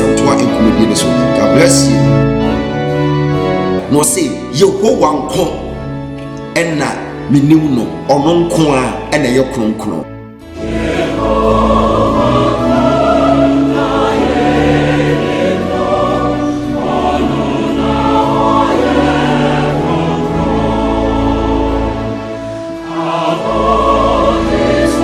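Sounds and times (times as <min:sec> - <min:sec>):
gospel choir singing: 0:00.0 - 0:25.0.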